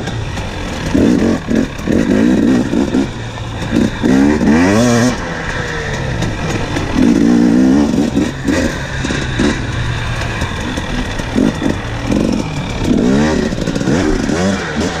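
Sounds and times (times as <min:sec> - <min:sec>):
bike knocking and rattling: 0:00.0 - 0:15.0
two-stroke dirt bike engine revving: 0:00.0 - 0:15.0.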